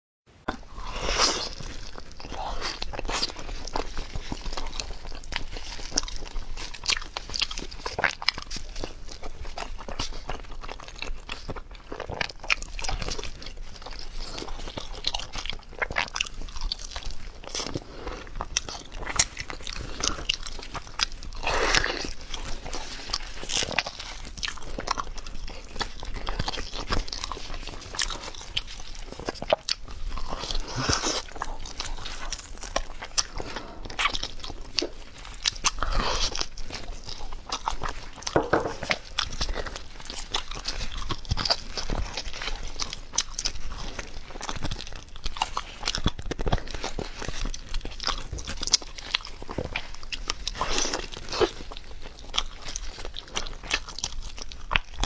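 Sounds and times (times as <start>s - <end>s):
person chewing and biting: 0.5s - 55.0s.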